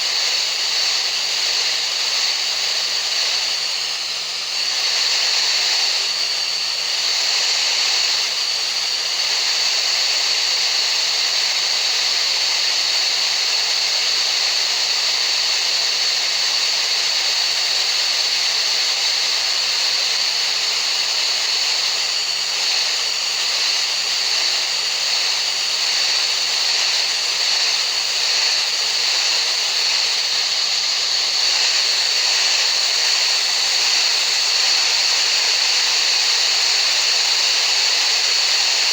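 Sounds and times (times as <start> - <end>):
steady hissing noise: 0.0 - 38.9.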